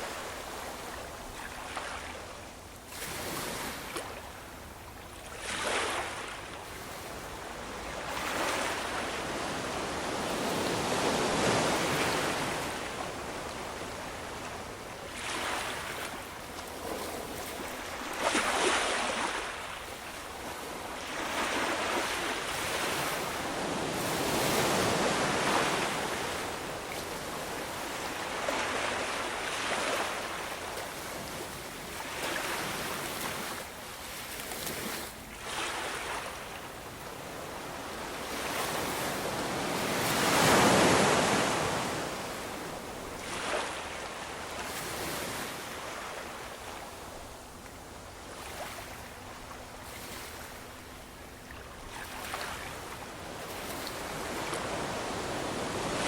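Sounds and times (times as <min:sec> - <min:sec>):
ocean waves breaking: 0:05.3 - 0:47.3, 0:48.3 - 0:56.0.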